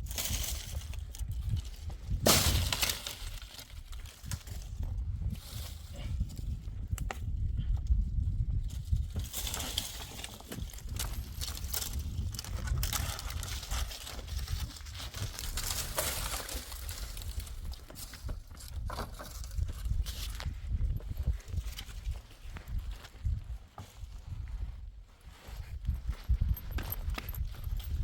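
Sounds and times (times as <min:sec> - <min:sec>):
rustling and crunching: 0:00.0 - 0:06.6, 0:08.5 - 0:28.0.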